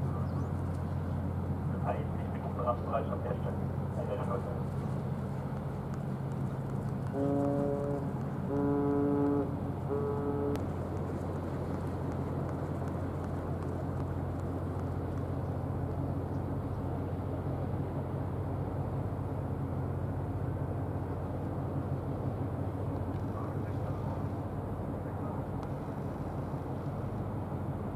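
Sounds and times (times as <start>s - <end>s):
ship machinery drone: 0.0s - 27.9s.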